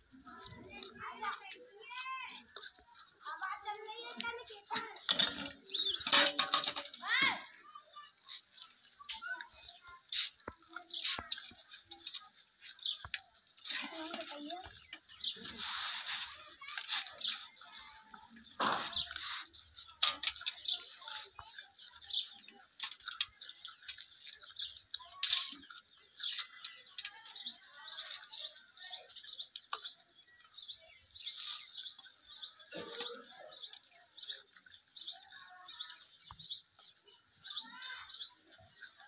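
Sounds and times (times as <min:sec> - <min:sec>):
small bird chirping: 0:00.0 - 0:39.0.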